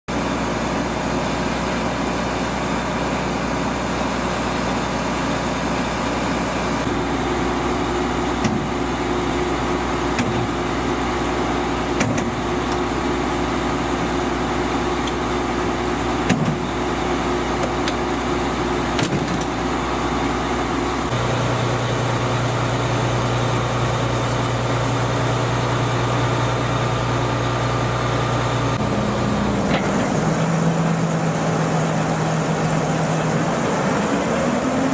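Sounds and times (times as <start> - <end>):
combine harvester drone: 0.1 - 34.9.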